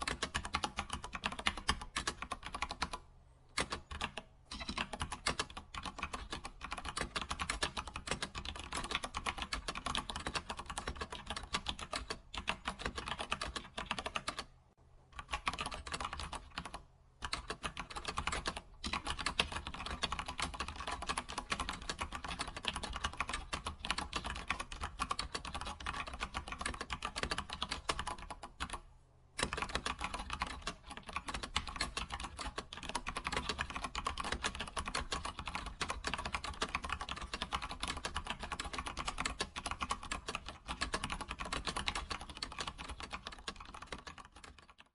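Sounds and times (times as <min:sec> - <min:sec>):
computer keyboard typing: 0:00.0 - 0:14.5, 0:15.2 - 0:28.8, 0:29.4 - 0:44.9.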